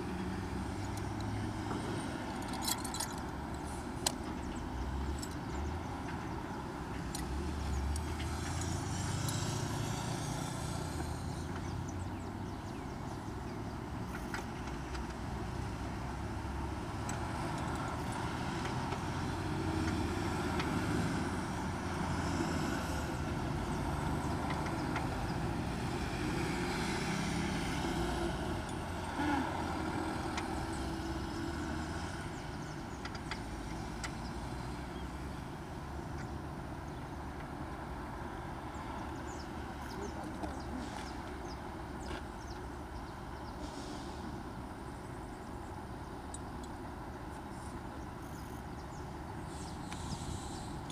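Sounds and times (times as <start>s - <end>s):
traffic rumble: 0.0s - 50.9s.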